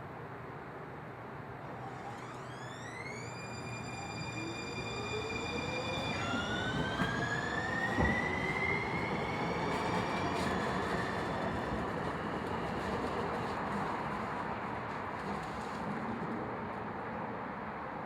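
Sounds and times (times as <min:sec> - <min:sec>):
train traction motor whine: 0:01.5 - 0:16.4
wheels rumbling on rail: 0:01.5 - 0:17.8.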